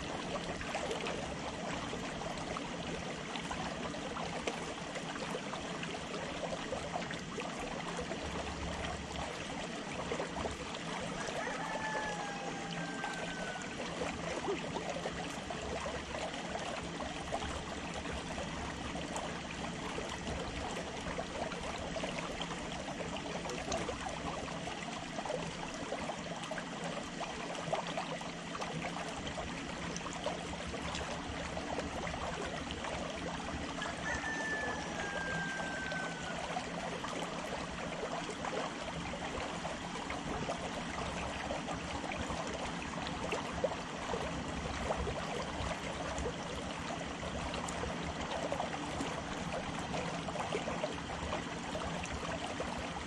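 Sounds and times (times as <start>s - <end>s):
small waves lapping against pier: 0.0s - 53.0s.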